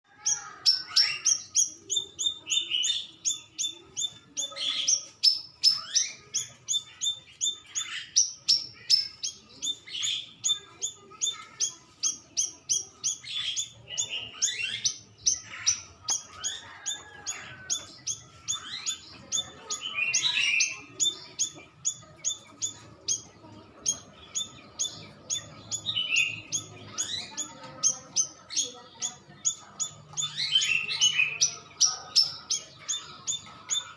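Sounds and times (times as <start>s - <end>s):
bird chirping: 0.0s - 33.9s.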